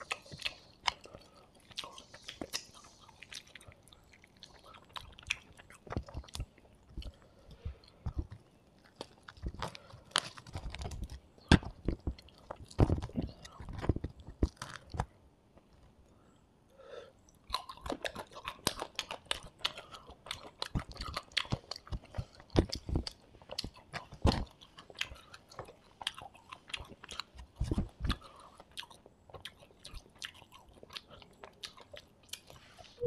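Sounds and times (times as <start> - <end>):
close chewing with wet smacks: 0.0 - 15.9, 17.3 - 33.0.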